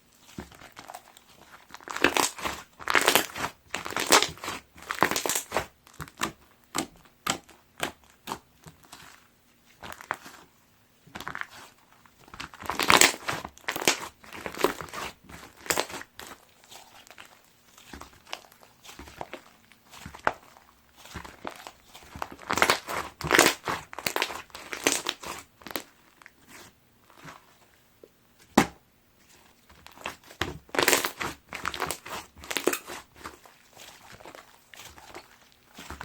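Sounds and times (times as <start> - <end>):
foam bead slime crackling: 0.1 - 27.8, 29.2 - 36.0.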